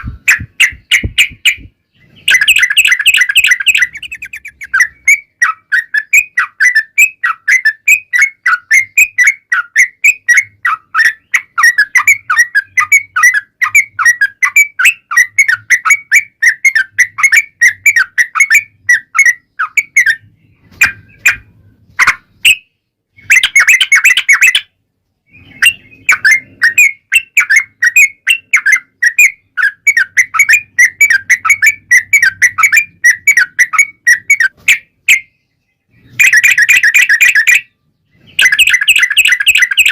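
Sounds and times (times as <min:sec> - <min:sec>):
bird singing chirping notes: 0:00.0 - 0:39.9.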